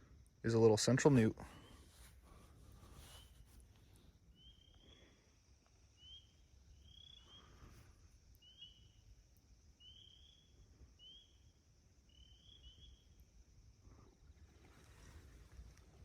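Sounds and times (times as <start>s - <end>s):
faint steady high hiss: 0.0s - 16.0s.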